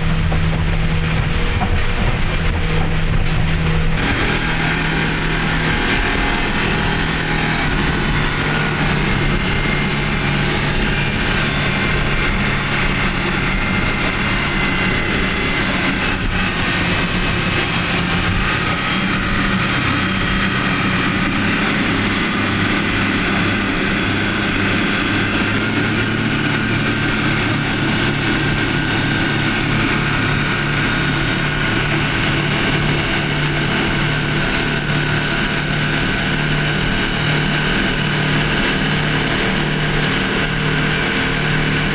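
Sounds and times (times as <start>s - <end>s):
boat engine drone: 0.0s - 41.9s
water and hull noise: 0.0s - 41.9s.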